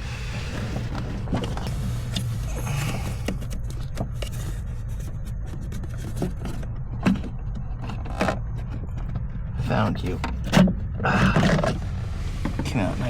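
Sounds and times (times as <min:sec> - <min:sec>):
steady low hum: 0:00.0 - 0:13.0
hands scraping plastic housing: 0:00.4 - 0:11.8.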